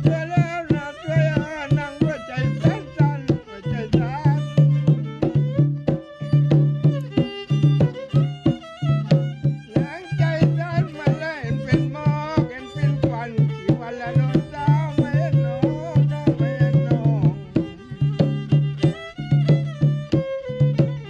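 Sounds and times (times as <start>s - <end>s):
hand drums beating: 0.0s - 21.0s
violin melody: 0.0s - 21.0s.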